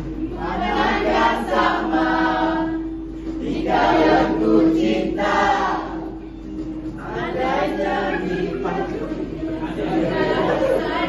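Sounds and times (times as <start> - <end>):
group of voices singing: 0.0 - 11.0.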